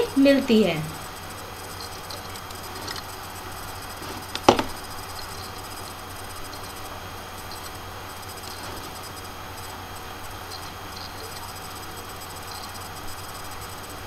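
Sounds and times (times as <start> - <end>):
recording hiss and hum: 0.0 - 14.0.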